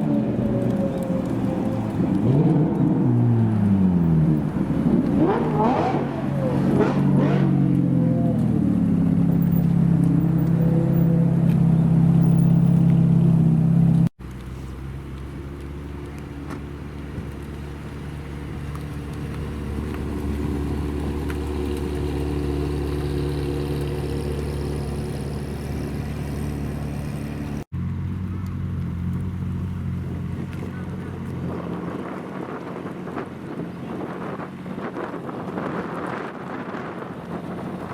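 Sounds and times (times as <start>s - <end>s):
car engines running at low revs: 0.0s - 37.9s.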